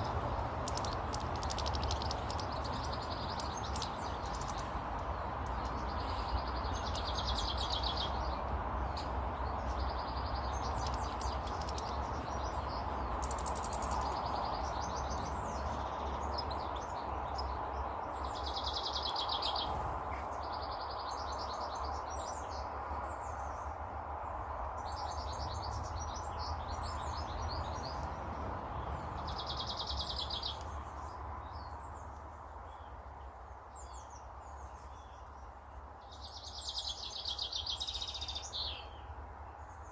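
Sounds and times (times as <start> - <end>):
background hiss and rumble: 0.0 - 39.9
songbirds singing: 0.0 - 39.9.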